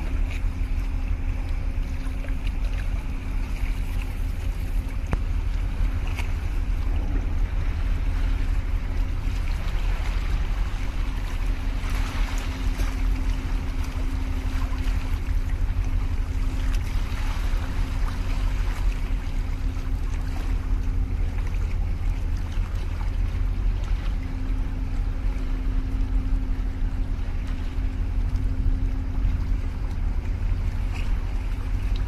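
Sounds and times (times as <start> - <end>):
low hum: 0.0 - 32.0
ship engine deep rumble: 0.0 - 32.0.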